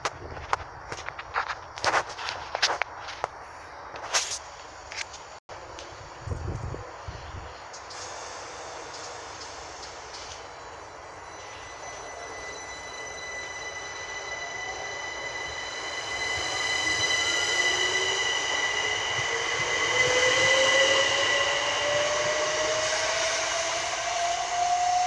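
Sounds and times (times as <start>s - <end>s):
electric train traction whine: 4.6s - 25.0s.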